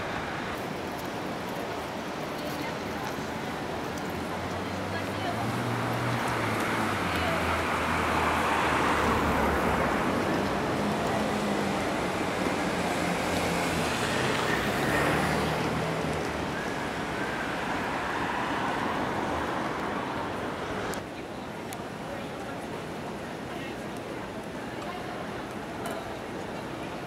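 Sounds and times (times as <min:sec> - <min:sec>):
vehicle and tyre noise: 0:00.0 - 0:27.0.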